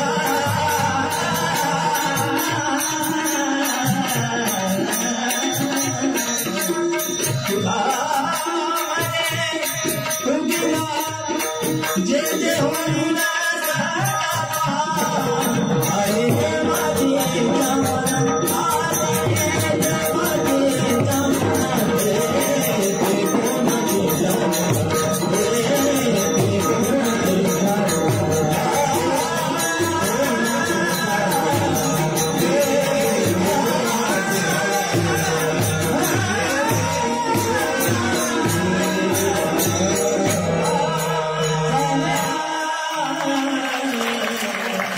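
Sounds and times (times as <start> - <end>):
clashing percussion: 0.0 - 44.9
voices singing a devotional chant: 0.0 - 44.9.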